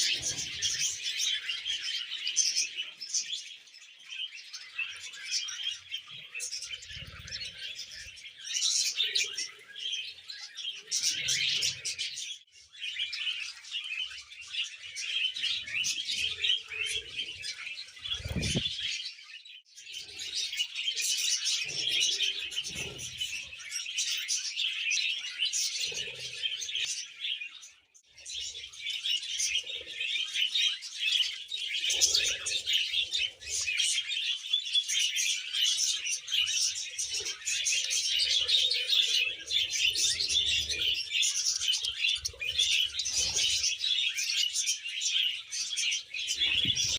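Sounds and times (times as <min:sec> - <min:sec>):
budgies chattering: 0:00.0 - 0:46.9.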